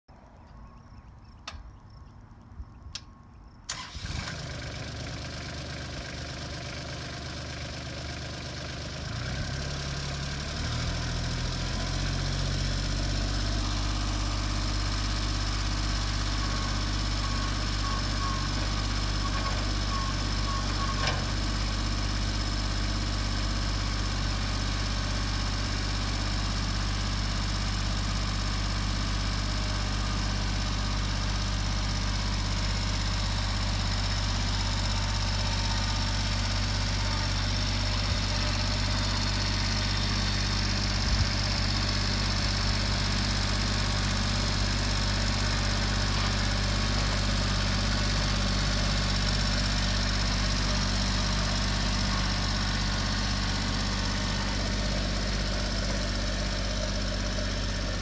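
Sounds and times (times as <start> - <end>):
diesel tractor engine running: 0.3 - 58.0.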